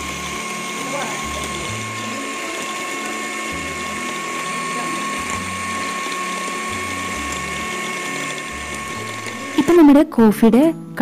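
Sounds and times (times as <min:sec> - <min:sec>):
electric hand mixer whine: 0:00.0 - 0:10.5.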